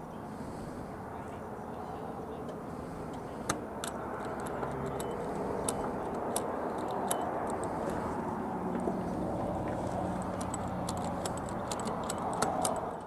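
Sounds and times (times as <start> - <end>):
steady low hum: 0.0 - 13.0
gas pump nozzle clicking: 2.5 - 13.0.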